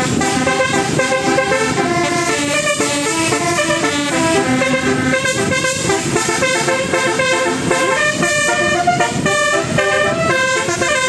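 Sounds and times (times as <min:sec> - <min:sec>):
musical bus horn melody: 0:00.0 - 0:11.0.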